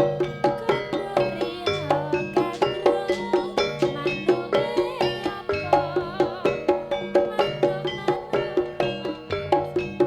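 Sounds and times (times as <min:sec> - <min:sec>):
struck pitched percussion: 0:00.0 - 0:10.0.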